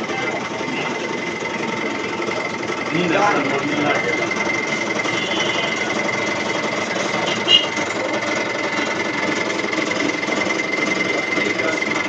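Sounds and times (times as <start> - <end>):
machine hum with high whine: 0.0 - 12.0.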